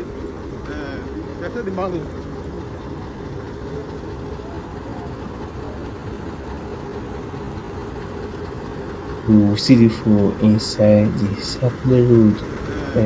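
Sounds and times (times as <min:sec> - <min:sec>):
vehicle engine and road traffic: 0:00.0 - 0:13.0.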